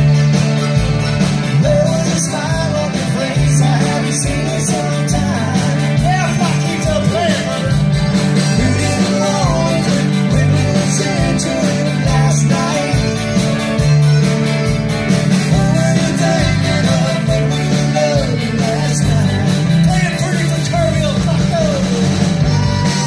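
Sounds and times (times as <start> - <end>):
accordion: 0.0 - 23.0
live band playing: 0.0 - 23.0
man singing: 1.5 - 13.6, 15.4 - 22.2.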